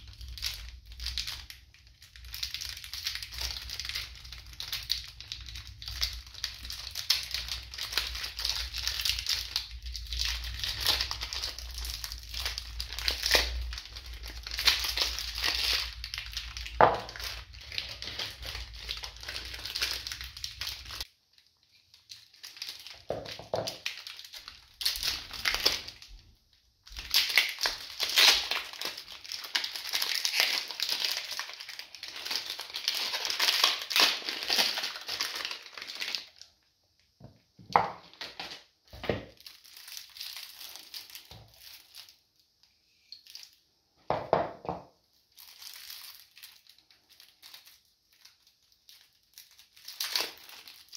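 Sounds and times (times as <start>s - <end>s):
plastic wrapping crinkling: 0.0s - 50.9s.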